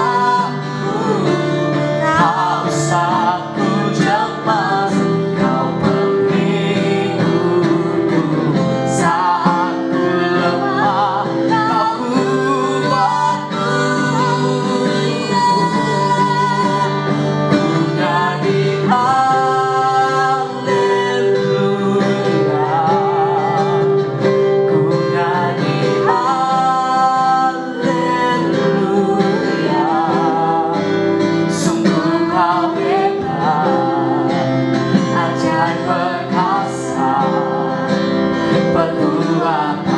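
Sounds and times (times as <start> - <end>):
guitar: 0.0 - 39.9
person singing: 0.0 - 39.9.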